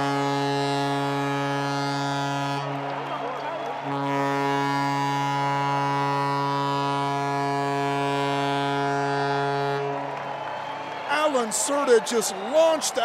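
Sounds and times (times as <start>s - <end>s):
home run horn blast: 0.0s - 11.1s.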